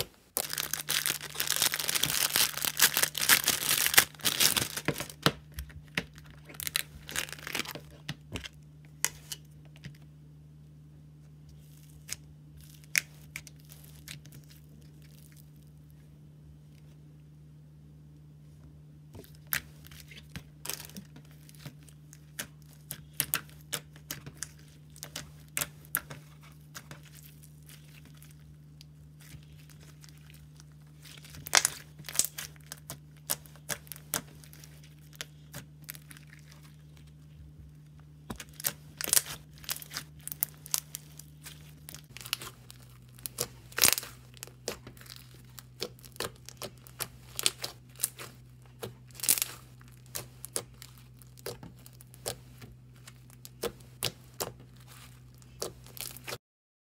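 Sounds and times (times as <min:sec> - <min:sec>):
crackling and crinkling clicks: 0:00.0 - 0:10.1, 0:19.2 - 0:56.4
faint steady hum: 0:00.0 - 0:56.4.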